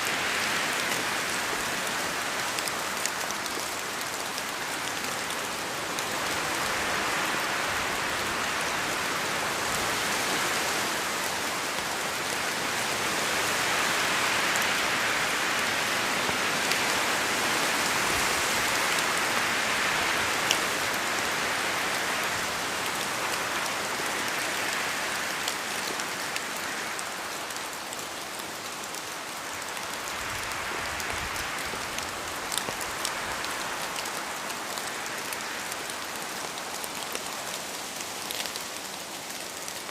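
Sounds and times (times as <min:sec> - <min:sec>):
sharp raindrops: 0:00.0 - 0:39.9
steady rain hissing: 0:00.0 - 0:39.9.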